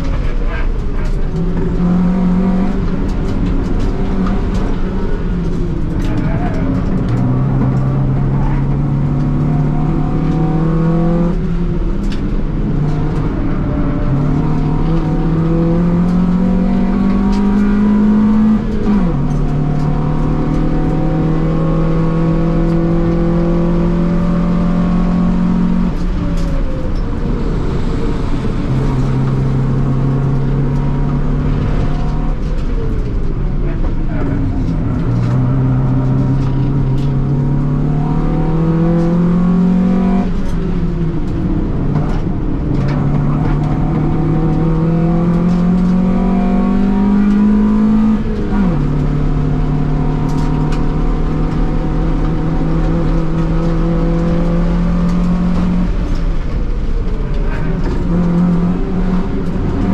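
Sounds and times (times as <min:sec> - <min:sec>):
car engine revving from inside cabin: 0:01.3 - 0:26.0, 0:28.4 - 0:32.5, 0:34.5 - 0:40.7, 0:42.7 - 0:56.4, 0:57.7 - 0:59.9.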